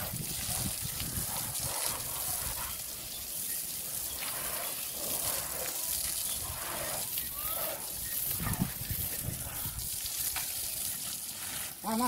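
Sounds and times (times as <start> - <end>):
water jet hissing from hose: 0.0 - 12.0
water splashing down: 0.0 - 12.0.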